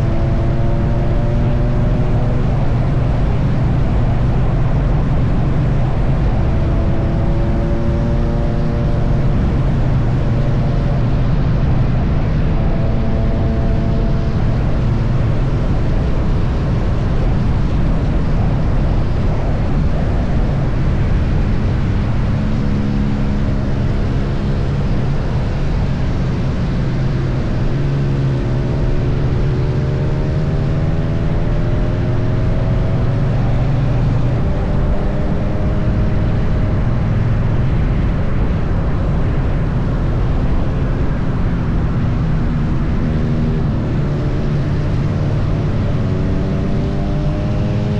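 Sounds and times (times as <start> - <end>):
heavy wind rush: 0.0 - 47.9
motorcycle engine cruising: 0.0 - 47.9.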